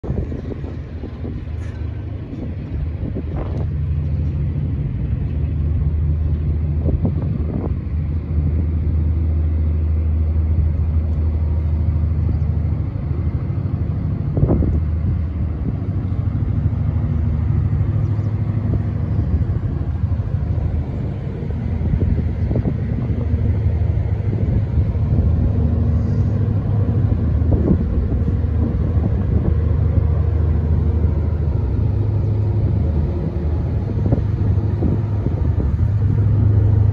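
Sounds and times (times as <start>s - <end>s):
ship diesel engines droning: 0.0s - 36.9s.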